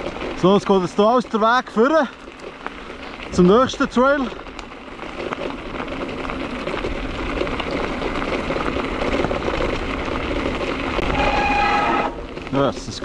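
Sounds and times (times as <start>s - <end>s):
crackling tyre noise on trail: 0.0s - 13.0s.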